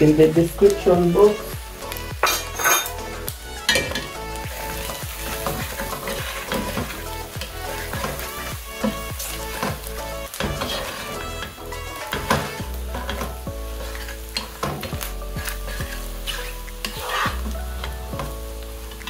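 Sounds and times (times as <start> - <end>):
tripe and onions sizzling: 0.0 - 19.0.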